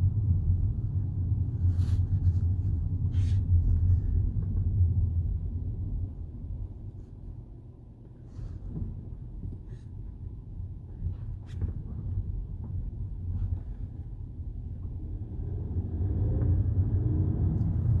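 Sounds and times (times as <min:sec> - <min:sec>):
low road rumble: 0:00.0 - 0:18.0.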